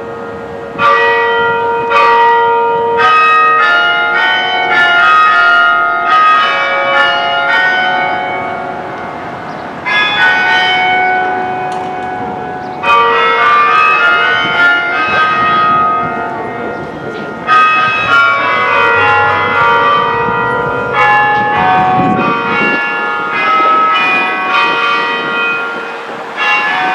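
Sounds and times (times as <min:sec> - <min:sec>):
tower bells chiming: 0:00.0 - 0:26.9.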